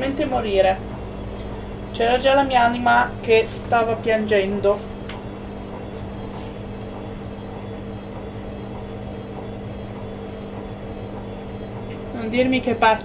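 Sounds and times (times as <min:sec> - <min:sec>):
washing machine drum humming: 0:00.0 - 0:13.0.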